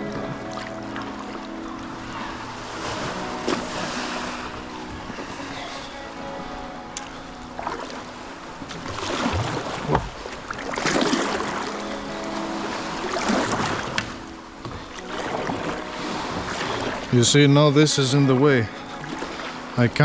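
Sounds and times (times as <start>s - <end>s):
water splashing against kayak hull: 0.0s - 20.0s.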